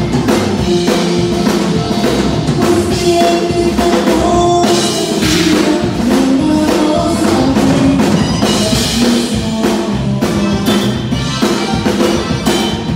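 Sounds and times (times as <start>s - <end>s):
conjunto band music: 0.0s - 12.9s
drum-kit beat: 0.0s - 12.9s.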